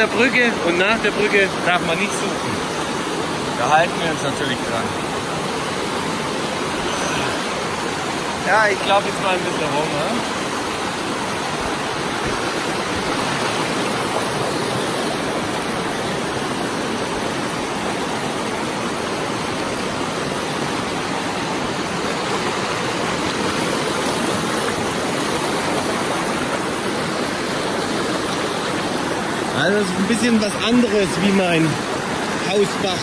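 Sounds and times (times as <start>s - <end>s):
river rushing over boulders: 0.0s - 33.0s.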